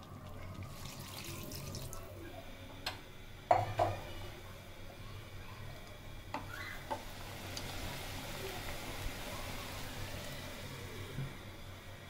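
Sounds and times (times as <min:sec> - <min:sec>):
curry bubbling in a pot: 0:00.0 - 0:02.6, 0:03.6 - 0:12.0.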